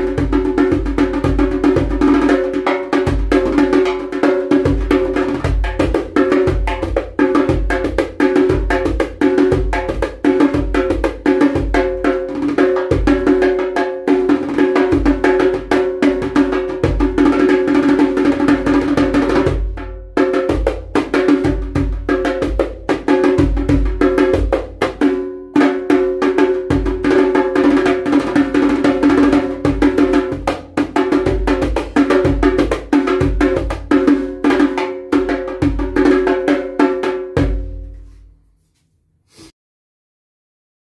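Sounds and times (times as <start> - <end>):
hand drum played fast: 0.0 - 38.0.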